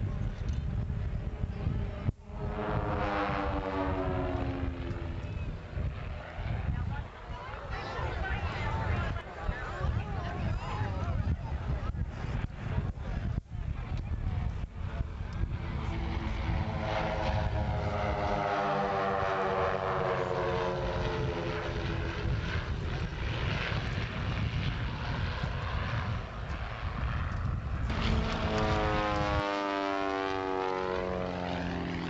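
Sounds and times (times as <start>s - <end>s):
propeller planes droning past: 0.0s - 32.0s
single biplane engine passing: 1.2s - 9.2s, 14.3s - 32.0s.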